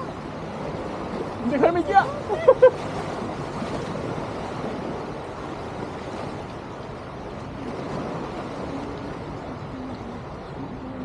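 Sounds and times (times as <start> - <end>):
waves washing on shore: 0.0 - 11.0
wind: 0.0 - 11.0.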